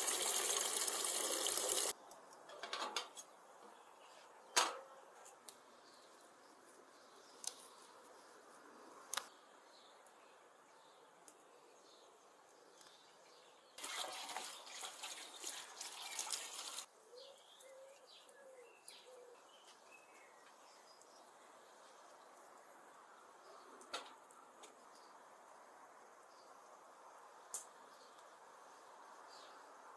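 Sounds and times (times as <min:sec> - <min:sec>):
birds chirping faintly: 0:03.1 - 0:29.9.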